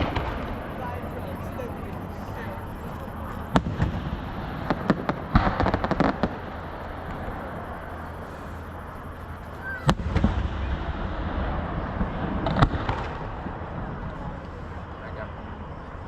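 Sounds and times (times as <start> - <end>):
fireworks bangs: 0.0 - 14.6
fireworks boom with rumble: 0.0 - 15.2
fireworks crackle: 0.0 - 15.2.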